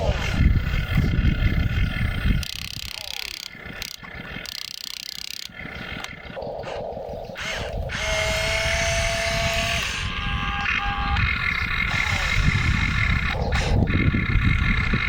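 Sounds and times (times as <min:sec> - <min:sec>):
gears clicking and rattling: 0:00.0 - 0:06.6, 0:07.2 - 0:15.0
motor whine: 0:00.0 - 0:15.0.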